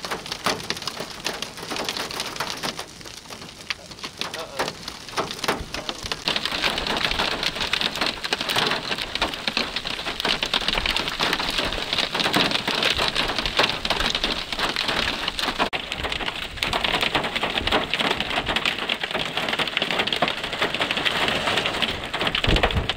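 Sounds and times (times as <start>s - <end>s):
hail and heavy rain clattering: 0.0s - 22.9s.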